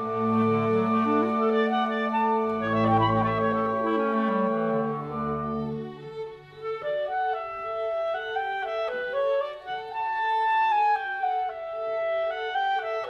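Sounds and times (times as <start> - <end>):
clarinet melody: 0.0 - 13.0
string orchestra: 0.0 - 13.0.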